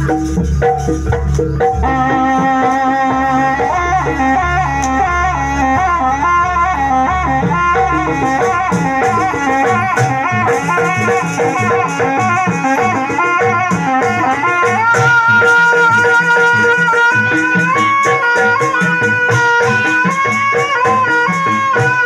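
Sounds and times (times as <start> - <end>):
drums and percussion: 0.0 - 22.0
reed wind instrument melody: 0.0 - 22.0.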